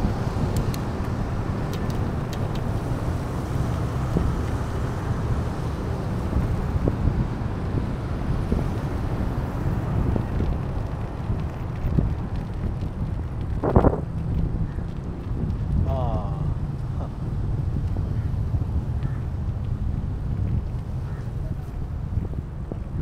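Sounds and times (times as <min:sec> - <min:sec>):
road traffic rush: 0:00.0 - 0:23.0
wind buffeting microphone: 0:00.0 - 0:23.0.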